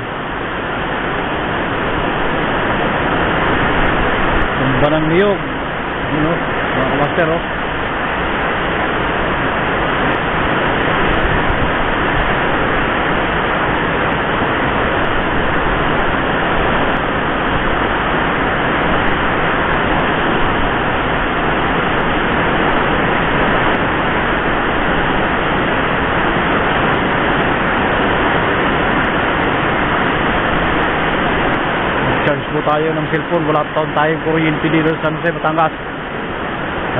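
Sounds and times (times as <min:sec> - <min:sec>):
heavy rain downpour: 0:00.0 - 0:36.9
strong wind gusts: 0:00.0 - 0:36.9.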